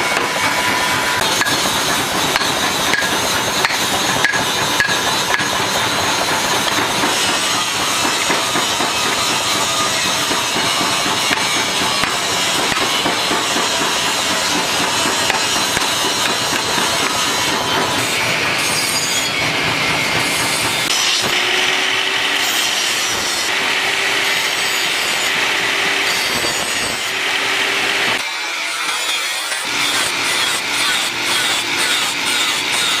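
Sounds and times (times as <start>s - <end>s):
hand tool scraping metal: 0.0s - 21.5s, 24.2s - 33.0s.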